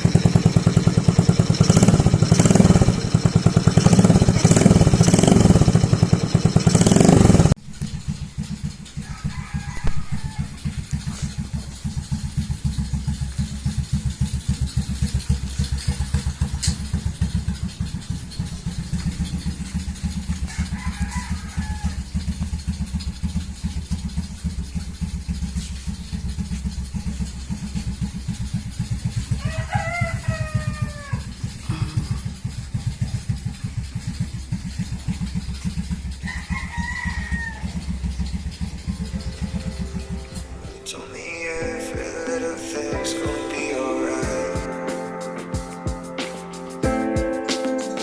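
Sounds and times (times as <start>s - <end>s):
motorcycle engine idling: 0.0s - 46.2s.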